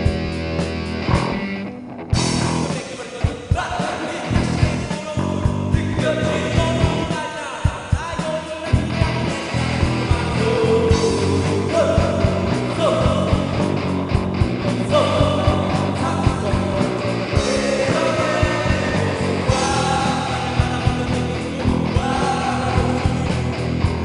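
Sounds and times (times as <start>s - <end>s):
electric guitar: 0.0s - 7.3s, 7.9s - 24.0s
bass guitar: 0.0s - 24.0s
drums keeping a steady beat: 0.0s - 24.0s
person singing: 2.6s - 13.8s, 14.7s - 23.8s.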